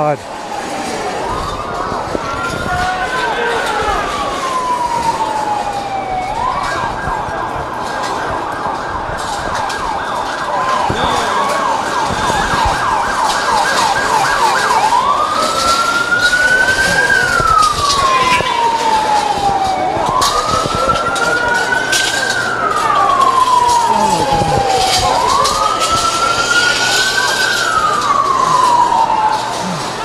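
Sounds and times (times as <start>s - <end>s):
emergency vehicle siren: 0.0s - 30.0s.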